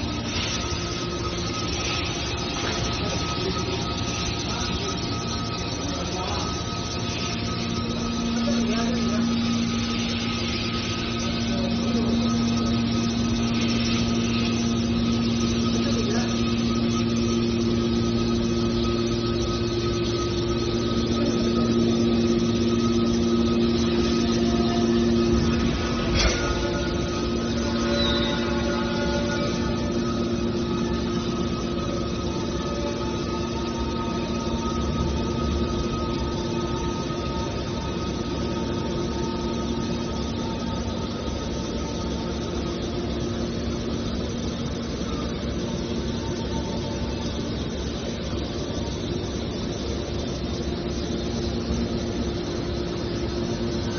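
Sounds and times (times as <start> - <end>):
baler machinery running: 0.0 - 53.9
hydraulic power unit humming: 0.0 - 53.9.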